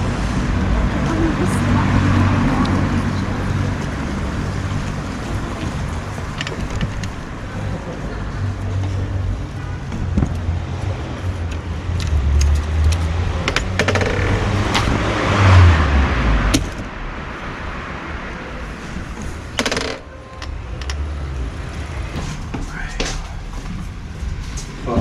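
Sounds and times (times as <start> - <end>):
car passing: 0.0 - 25.0.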